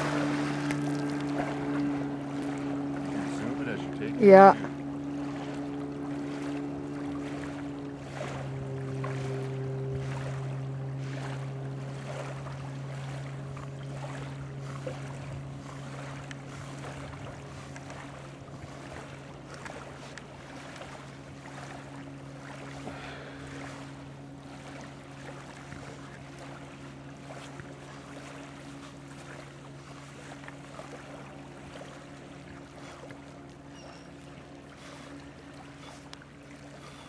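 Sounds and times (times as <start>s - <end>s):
low engine drone: 0.0s - 37.0s
water lapping: 0.0s - 37.0s.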